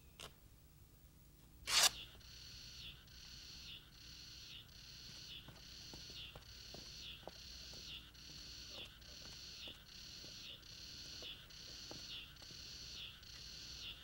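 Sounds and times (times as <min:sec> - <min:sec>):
cicada buzzing in pulses: 0:01.8 - 0:14.0.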